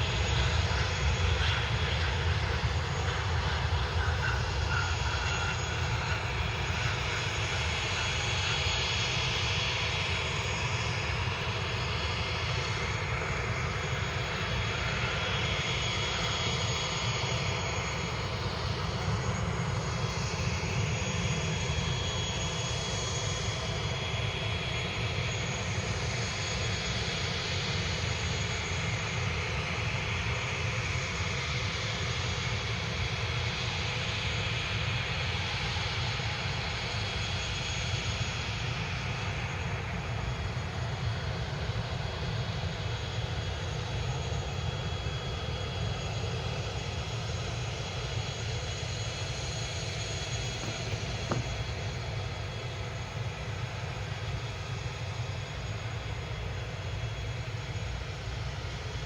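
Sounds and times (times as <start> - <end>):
jet engine high-pitched whine: 0.0 - 59.0
jet engines rumbling: 0.0 - 59.0.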